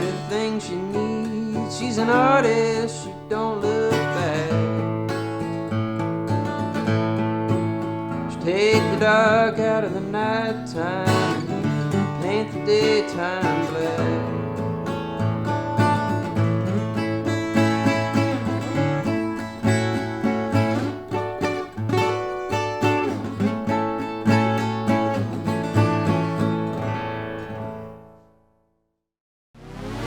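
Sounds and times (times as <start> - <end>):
acoustic guitar picked and strummed: 0.0 - 28.6.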